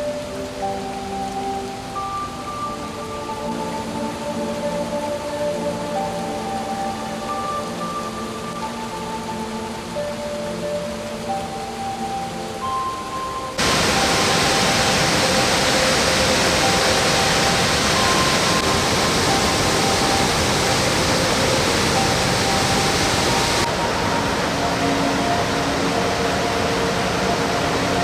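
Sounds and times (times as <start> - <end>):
gentle music: 0.0 - 28.0
waterfall roaring: 0.0 - 28.0.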